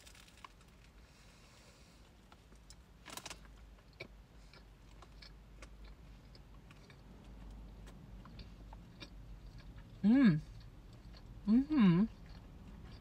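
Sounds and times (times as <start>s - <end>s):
chewing sandwich: 2.3s - 13.0s.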